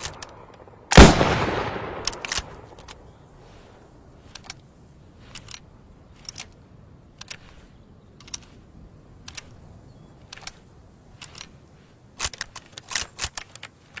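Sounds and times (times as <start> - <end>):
rifle bolt clicks and rattles: 0.0 - 3.2, 4.2 - 14.0.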